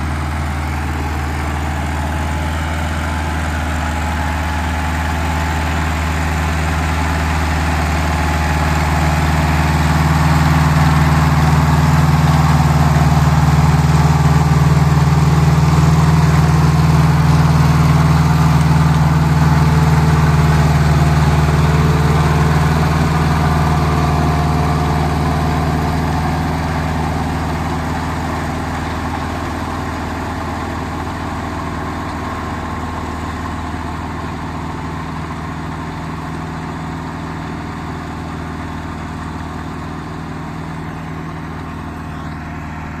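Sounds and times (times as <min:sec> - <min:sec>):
tractor engine running under load: 0:00.0 - 0:43.0.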